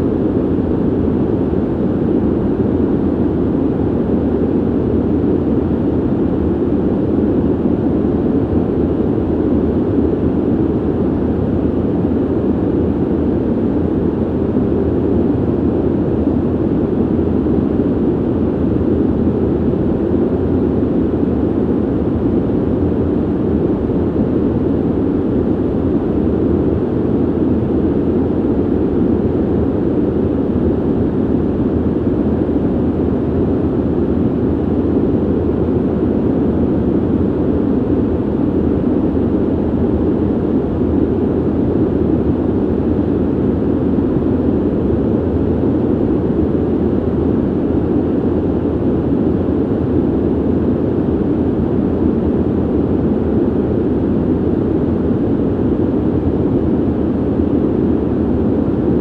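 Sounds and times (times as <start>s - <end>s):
ventilation airflow rush: 0.0s - 59.0s.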